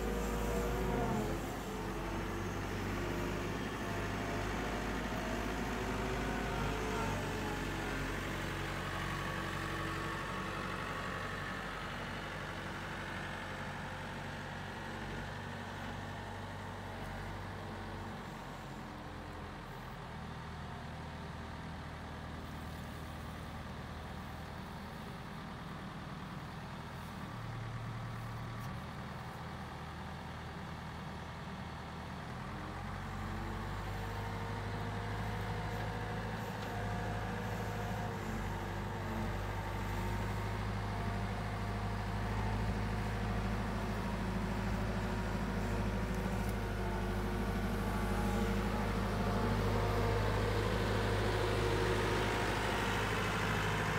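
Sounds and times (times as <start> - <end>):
diesel loader engine running: 0.0 - 53.9.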